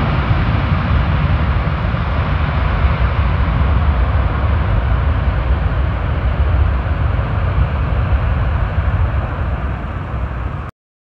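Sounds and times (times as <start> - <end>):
jet engine roar: 0.0 - 10.7
wind on microphone: 0.0 - 10.7.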